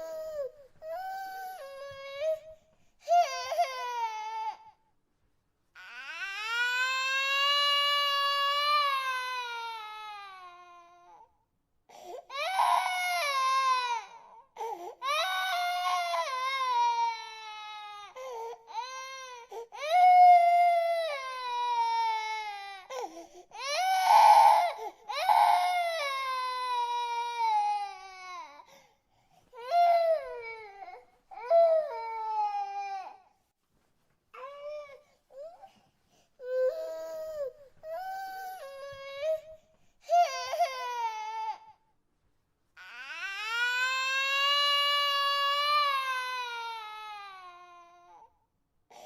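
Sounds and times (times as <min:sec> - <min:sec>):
infant crying: 0:00.0 - 0:04.8, 0:05.8 - 0:11.3, 0:12.0 - 0:28.9, 0:29.6 - 0:33.3, 0:36.4 - 0:41.8, 0:42.8 - 0:48.3.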